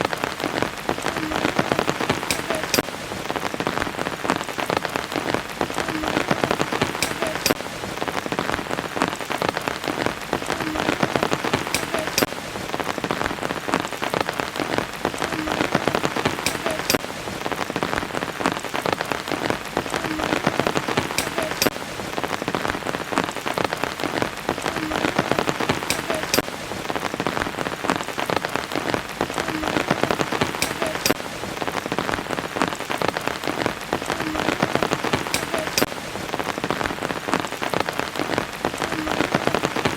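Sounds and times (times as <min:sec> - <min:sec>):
sharp raindrops: 0:00.0 - 0:39.9
steady rain falling: 0:00.0 - 0:39.9.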